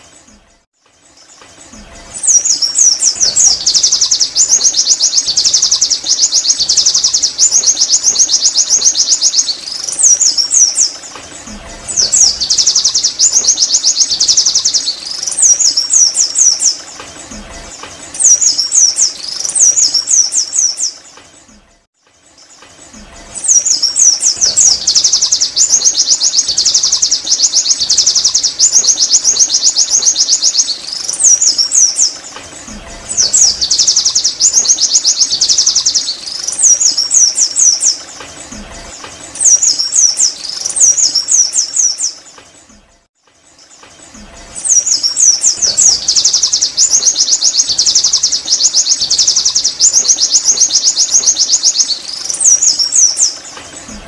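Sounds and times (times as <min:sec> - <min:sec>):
bird twittering high chirps: 0:00.0 - 0:54.0.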